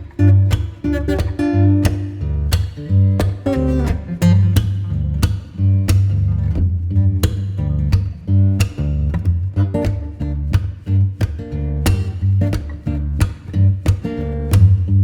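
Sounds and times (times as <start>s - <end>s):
bass line: 0.0s - 15.0s
strummed acoustic guitar: 0.0s - 15.0s.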